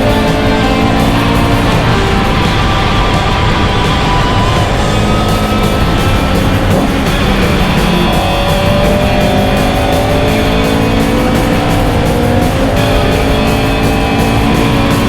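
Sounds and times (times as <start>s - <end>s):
music: 0.0s - 15.0s
race car engine running hard: 0.0s - 15.0s.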